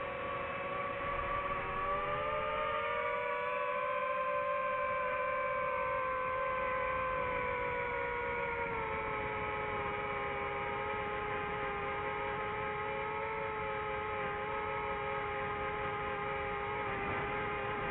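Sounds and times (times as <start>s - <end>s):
drone propellers whining: 0.0s - 14.8s.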